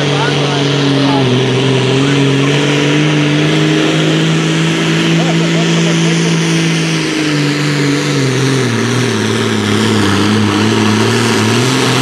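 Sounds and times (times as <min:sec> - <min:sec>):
diesel tractor engine at full throttle: 0:00.0 - 0:12.0.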